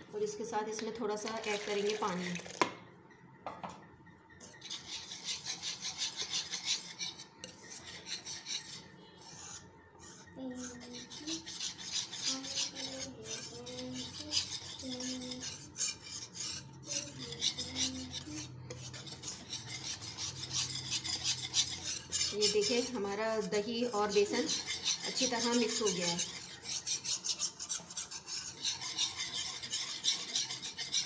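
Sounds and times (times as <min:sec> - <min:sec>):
wire whisk scraping a pan: 0:04.4 - 0:31.0.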